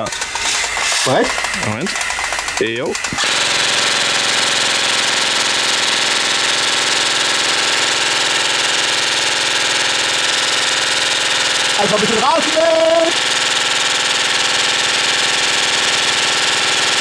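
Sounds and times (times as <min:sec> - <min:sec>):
airsoft rifle firing full-auto: 0:00.1 - 0:12.6, 0:13.2 - 0:17.0.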